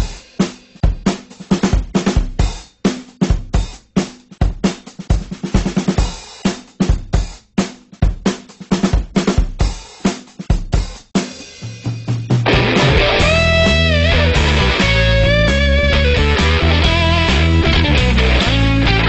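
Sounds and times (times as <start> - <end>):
drum kit playing a beat: 0.0 - 19.0.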